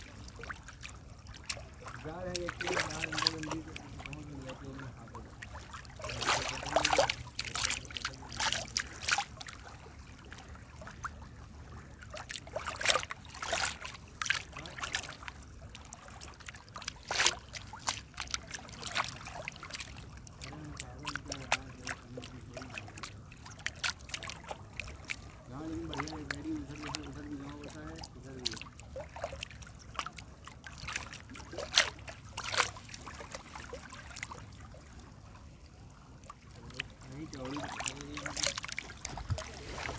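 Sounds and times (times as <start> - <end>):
low steady rumble: 0.0 - 39.9
water splashing and lapping: 0.0 - 39.9.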